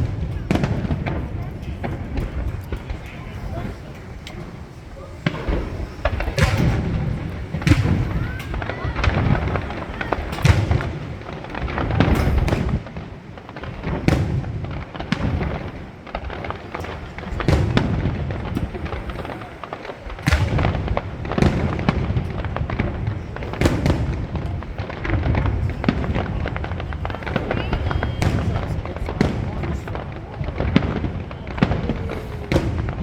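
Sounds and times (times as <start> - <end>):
firework crackling: 0.0 - 33.0
firework shells booming: 0.0 - 33.0.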